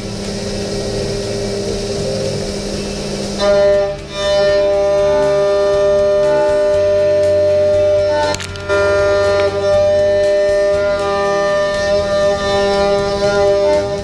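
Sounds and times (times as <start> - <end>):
machine pitched whine: 0.0 - 14.0
milling machine cutting metal: 0.0 - 14.0.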